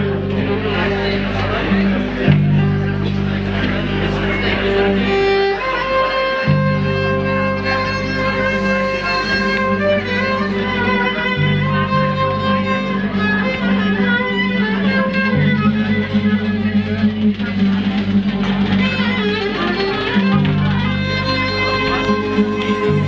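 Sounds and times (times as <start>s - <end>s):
acoustic guitar: 0.0s - 23.0s
deep sustained bass notes: 0.0s - 23.0s
violin melody: 0.0s - 23.0s.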